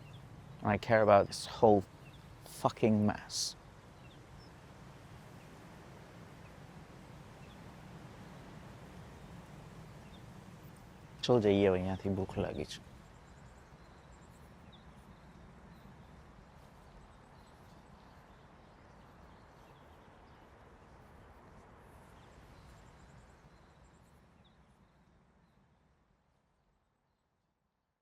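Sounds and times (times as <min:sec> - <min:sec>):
steady outdoor hiss: 0:00.0 - 0:27.4.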